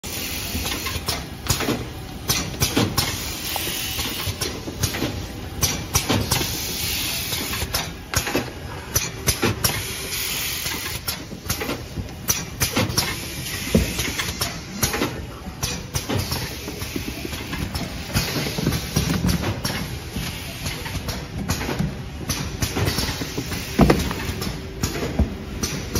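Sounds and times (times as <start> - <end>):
wrapping machine hissing: 0.0 - 25.9.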